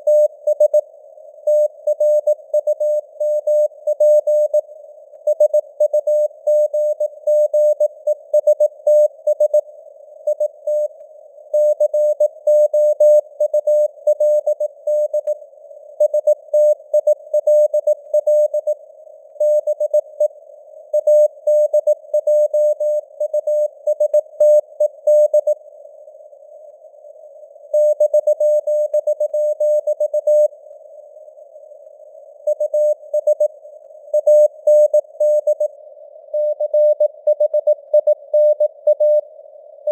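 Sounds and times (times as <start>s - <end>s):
faint radio hiss: 0.0s - 37.2s, 39.2s - 39.9s.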